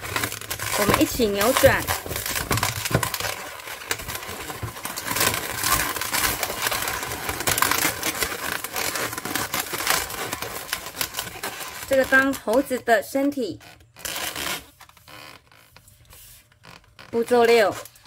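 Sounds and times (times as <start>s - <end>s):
balloons rubbing and crackling: 0.0s - 18.0s.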